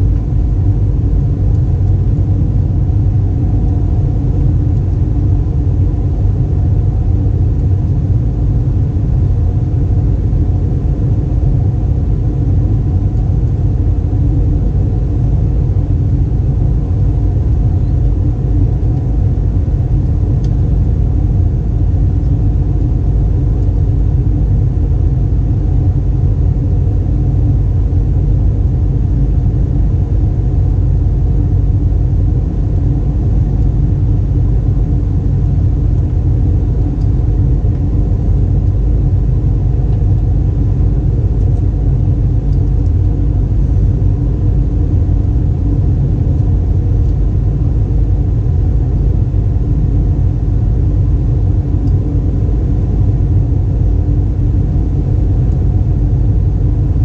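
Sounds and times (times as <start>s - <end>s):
airplane cabin rumble: 0.0s - 57.0s
low hum of steady tones: 0.0s - 57.0s.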